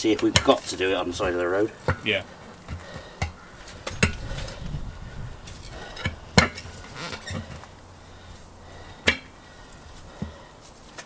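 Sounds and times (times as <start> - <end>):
tyre levers clinking on wheel rim: 0.0 - 11.0.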